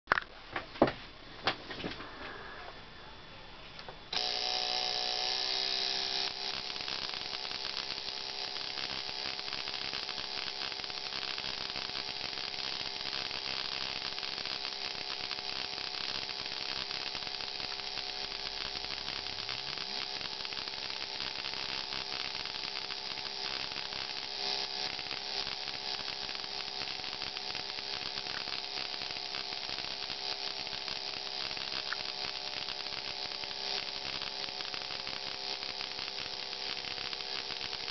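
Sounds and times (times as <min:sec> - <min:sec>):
induction coil interrupter buzzing: 0:03.8 - 0:37.9
high-voltage sparks crackling: 0:04.1 - 0:37.9.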